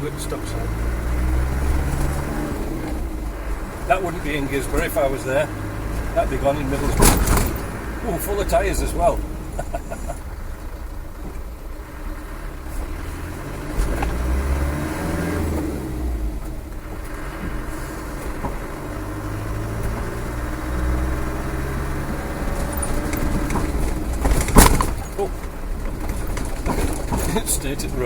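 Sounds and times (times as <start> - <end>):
tyre noise: 0.0 - 12.2, 12.8 - 28.0
diesel engine running: 0.0 - 28.0.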